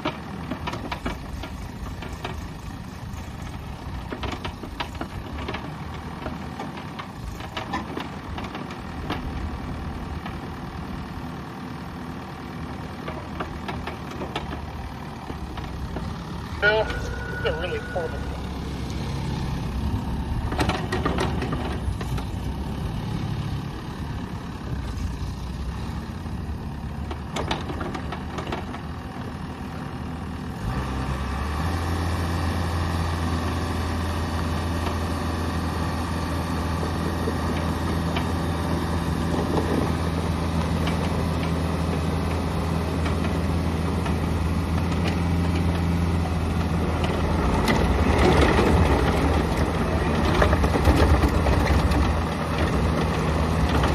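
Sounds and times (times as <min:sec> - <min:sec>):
mini excavator diesel engine running: 0:00.0 - 0:53.9.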